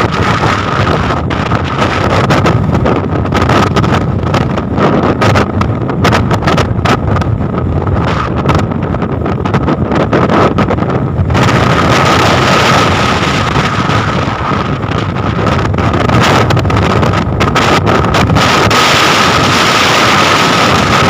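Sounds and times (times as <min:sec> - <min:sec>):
low rumble of engine and sea: 0:00.0 - 0:21.0
steady high whine: 0:00.0 - 0:21.0
wind buffeting microphone: 0:00.0 - 0:21.0.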